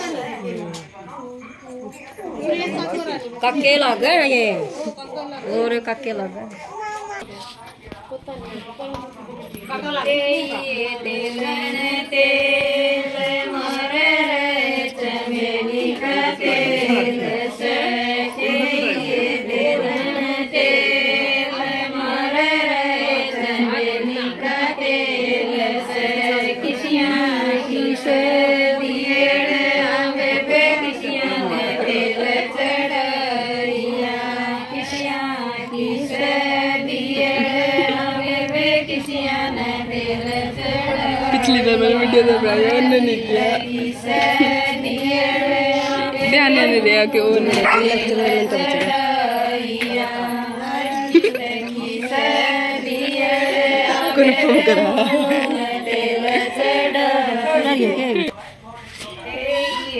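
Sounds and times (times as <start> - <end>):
women singing folk song: 9.6 - 58.3.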